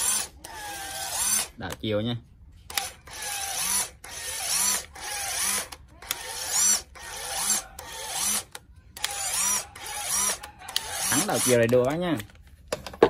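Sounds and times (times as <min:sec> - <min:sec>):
cordless screwdriver motor bursts: 0:00.0 - 0:01.5, 0:02.7 - 0:11.8.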